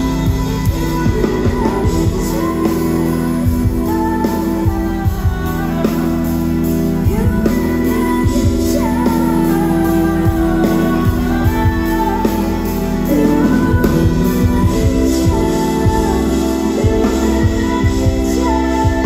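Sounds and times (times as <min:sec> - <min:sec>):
live concert music: 0:00.0 - 0:19.0
woman singing: 0:00.0 - 0:19.0.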